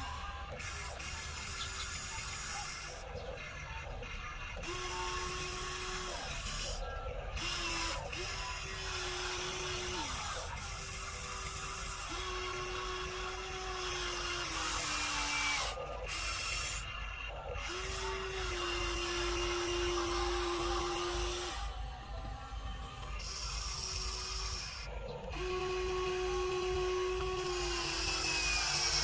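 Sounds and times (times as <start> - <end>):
electric gear motors whining: 0.0 - 29.0.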